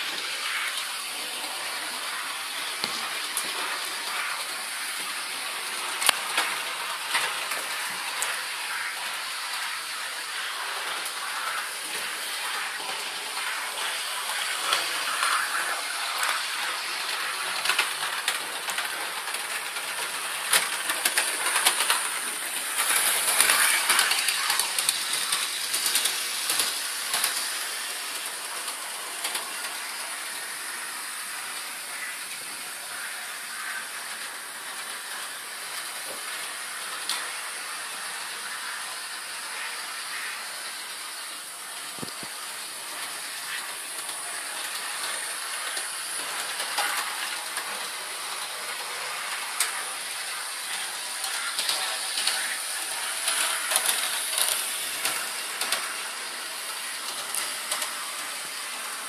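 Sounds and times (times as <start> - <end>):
model train whirring hiss: 0.0 - 59.0.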